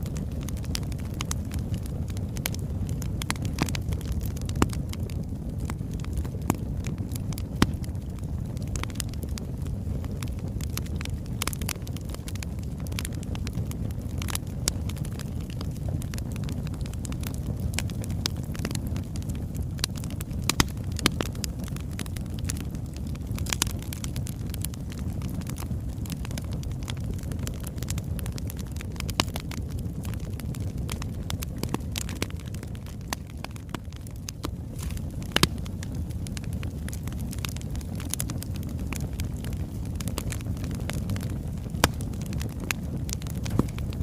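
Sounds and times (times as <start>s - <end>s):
fire rumbling: 0.0s - 44.0s
logs crackling and popping: 0.0s - 44.0s.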